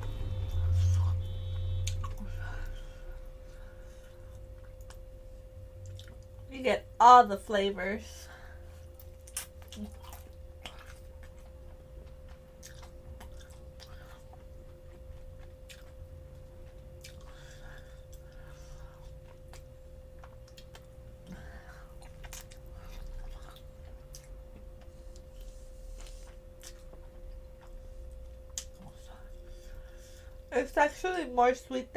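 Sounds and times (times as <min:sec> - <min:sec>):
faint steady hum: 0:00.0 - 0:31.9
person chewing crispy food: 0:00.1 - 0:06.4, 0:08.4 - 0:30.5.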